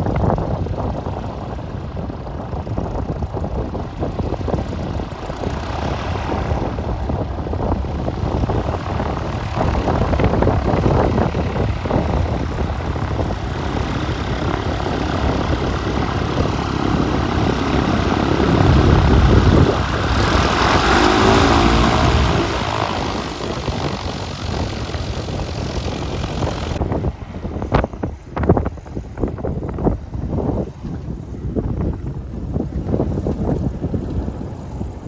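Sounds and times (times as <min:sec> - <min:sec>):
propeller airplane passing: 0:00.0 - 0:29.2
wind buffeting microphone: 0:00.0 - 0:35.0.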